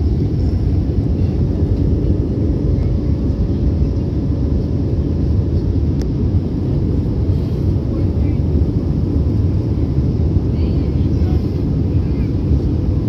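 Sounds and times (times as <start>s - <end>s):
jet engines rumbling: 0.0s - 13.0s
rushing air: 0.0s - 13.0s.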